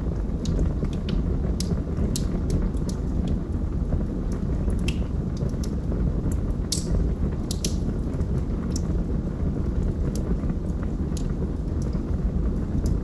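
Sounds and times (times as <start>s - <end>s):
burning logs crackling and popping: 0.0s - 13.0s
fire roaring in fireplace: 0.0s - 13.0s.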